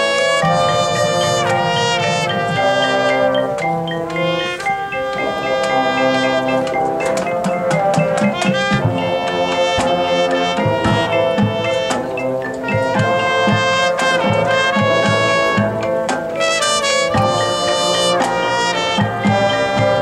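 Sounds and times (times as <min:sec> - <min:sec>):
brass chords: 0:00.0 - 0:20.0
drum and percussion hits: 0:00.0 - 0:20.0.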